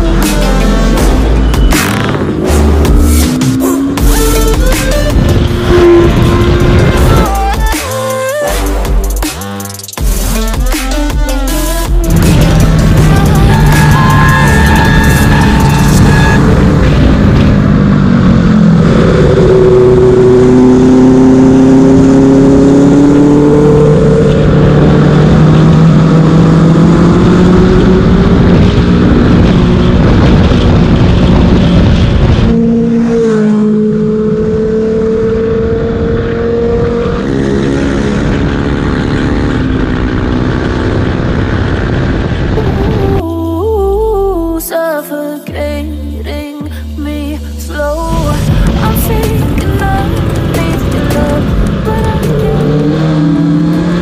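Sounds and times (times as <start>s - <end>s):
motorcycle engine and exhaust revving: 0.0s - 43.2s, 47.8s - 54.0s.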